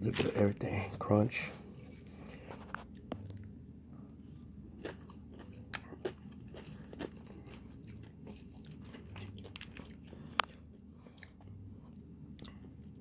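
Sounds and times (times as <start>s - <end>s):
person chewing crunchy food: 1.7s - 13.0s.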